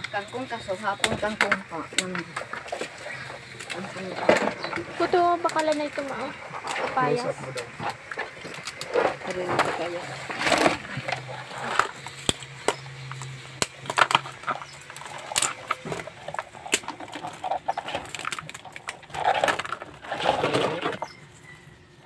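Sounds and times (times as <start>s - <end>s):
crab shells clicking and scraping: 0.0s - 21.6s.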